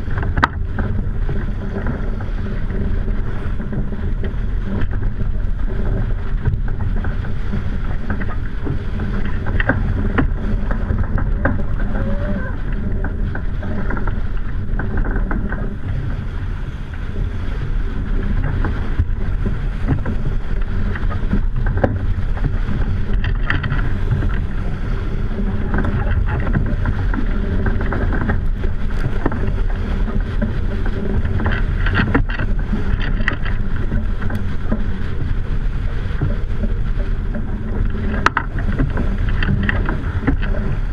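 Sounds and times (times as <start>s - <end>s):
water rushing along a hull: 0.0s - 40.9s
wind buffeting microphone: 0.0s - 40.9s.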